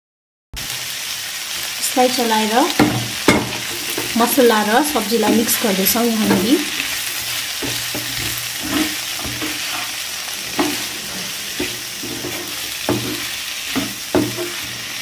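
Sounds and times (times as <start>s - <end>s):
oil sizzling in frying pan: 0.6s - 15.0s
spatula scraping pan: 1.5s - 15.0s.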